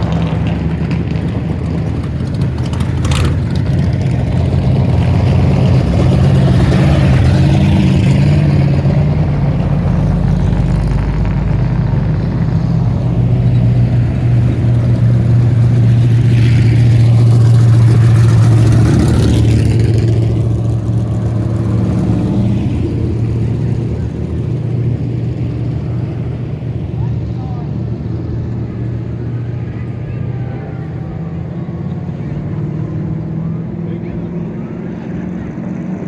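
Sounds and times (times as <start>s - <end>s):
race car engines driving past: 0.0s - 36.0s.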